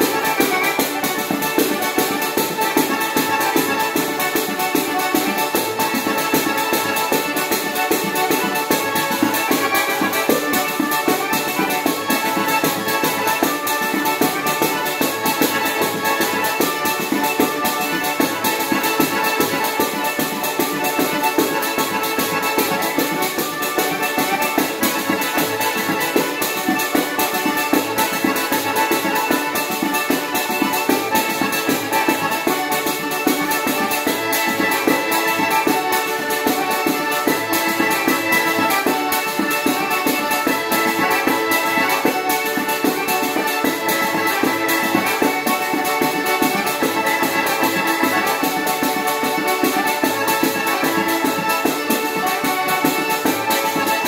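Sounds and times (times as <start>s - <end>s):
button accordion melody: 0.0s - 54.0s
jingled frame drums beating: 0.0s - 54.0s.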